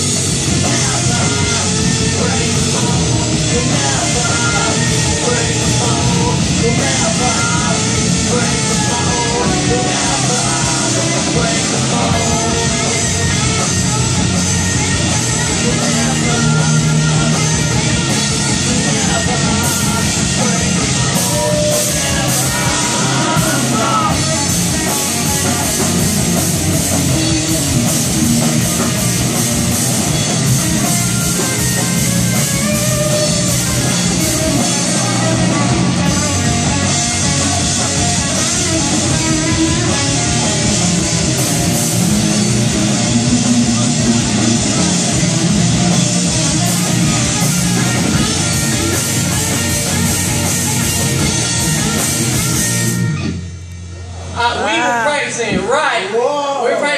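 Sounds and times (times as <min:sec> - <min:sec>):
drum kit with cymbals: 0:00.0 - 0:54.0
electric guitar: 0:00.0 - 0:55.7
rock band playing: 0:00.0 - 0:56.9.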